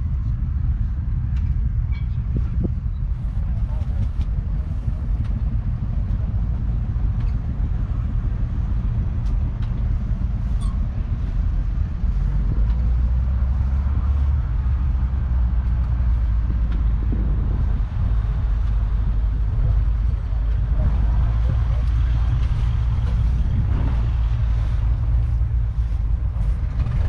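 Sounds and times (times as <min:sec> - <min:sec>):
tractor diesel engine rumbling: 0:00.0 - 0:27.0.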